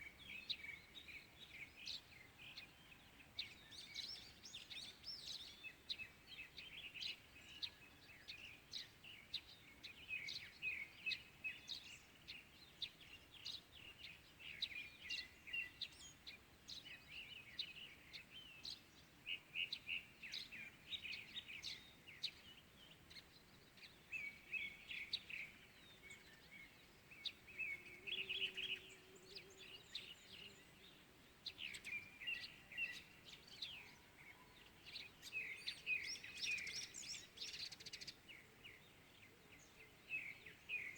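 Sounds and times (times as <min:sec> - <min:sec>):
faint outdoor hiss: 0:00.0 - 0:40.9
small birds chirping: 0:00.0 - 0:40.9.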